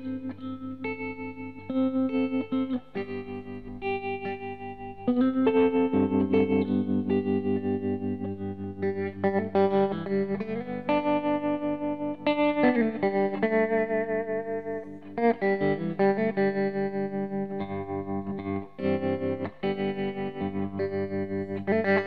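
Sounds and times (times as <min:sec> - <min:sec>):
solo guitar music: 0:00.0 - 0:22.0.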